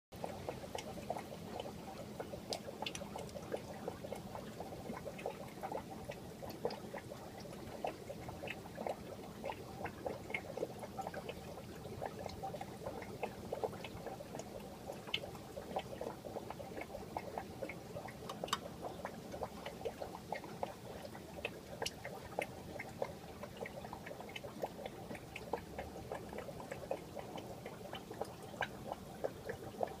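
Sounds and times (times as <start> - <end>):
aquarium water trickling and bubbling: 0.2 - 30.0.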